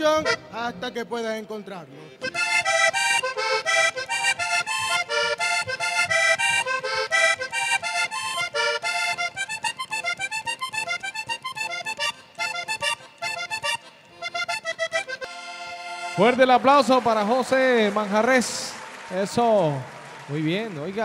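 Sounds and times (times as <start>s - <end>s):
button accordion playing fast: 0.0s - 0.8s, 2.0s - 21.0s.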